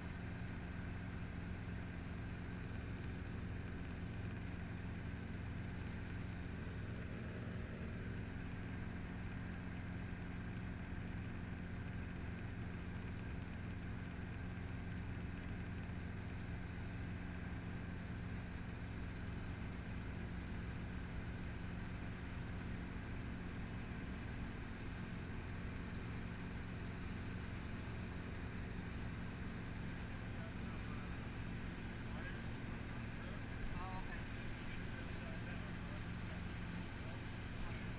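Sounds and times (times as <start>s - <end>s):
helicopter engine and rotor: 0.0s - 37.9s.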